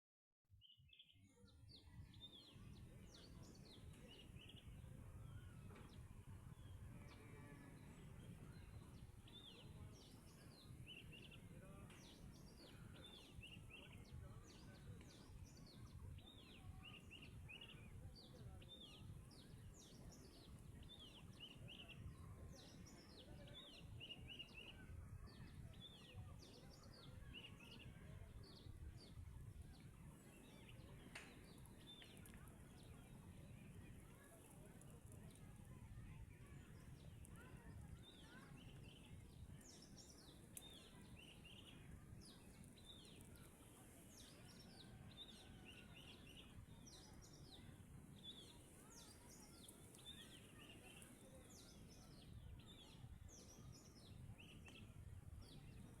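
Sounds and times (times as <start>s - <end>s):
small birds chirping: 0.6s - 56.0s.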